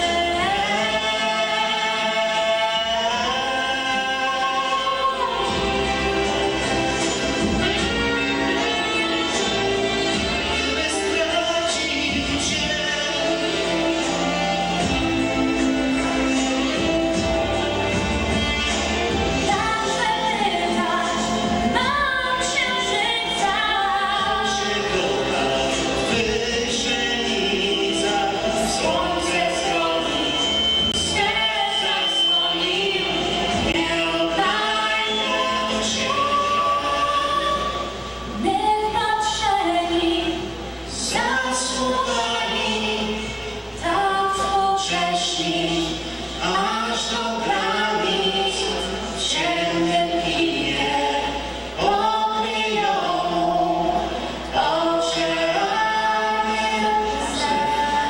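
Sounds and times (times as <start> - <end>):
man and woman singing a duet: 0.0 - 58.0.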